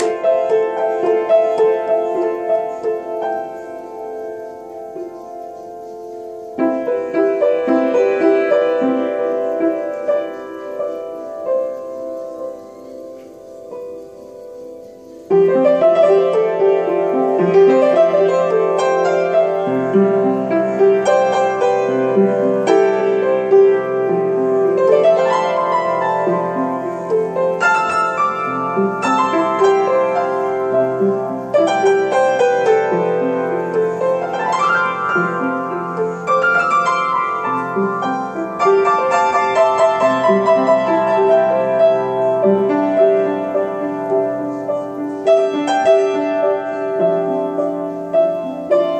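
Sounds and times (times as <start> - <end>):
solo piano improvisation: 0.0 - 48.9.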